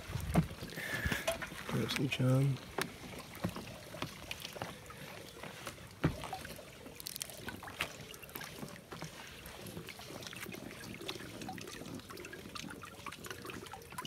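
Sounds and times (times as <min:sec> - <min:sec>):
water trickling and lapping: 0:00.0 - 0:14.0.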